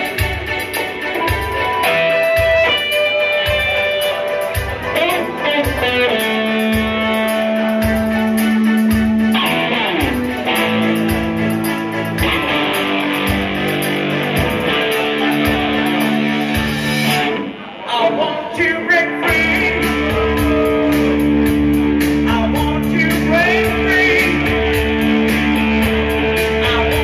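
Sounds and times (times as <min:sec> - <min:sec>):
steady drum beat: 0:00.0 - 0:17.3, 0:19.2 - 0:27.0
electric guitar melody: 0:00.0 - 0:27.0
bass line: 0:04.6 - 0:27.0.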